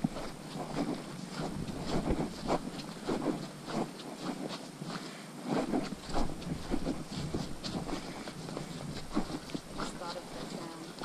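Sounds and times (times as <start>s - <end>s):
footsteps on wet gravel: 0.0s - 11.0s.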